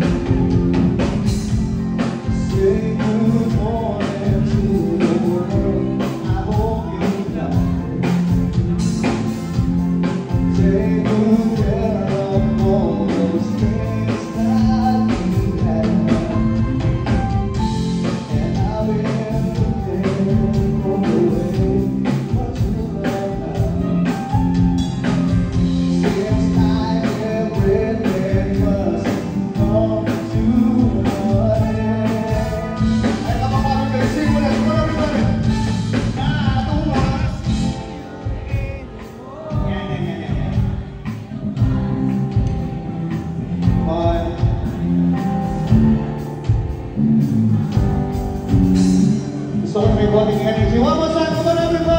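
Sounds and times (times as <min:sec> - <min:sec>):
live band playing: 0:00.0 - 0:51.9
man singing: 0:00.0 - 0:51.9
steady drumbeat: 0:00.0 - 0:51.9.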